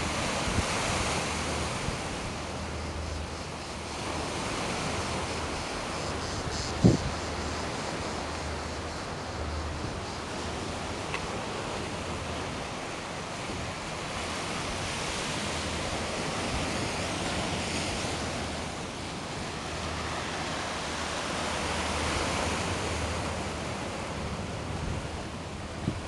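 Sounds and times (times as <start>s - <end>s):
surf washing over rocks: 0.0s - 26.0s
wind rumble on microphone: 0.0s - 26.0s.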